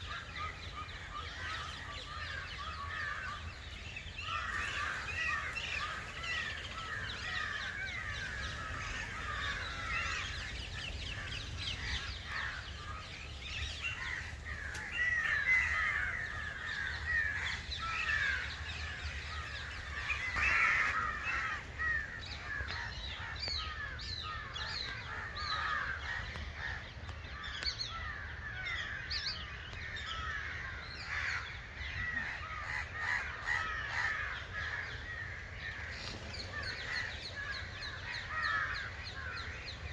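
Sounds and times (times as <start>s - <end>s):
crow-like cawing: 0.0s - 26.8s, 30.1s - 39.5s
many birds chattering: 0.0s - 39.9s.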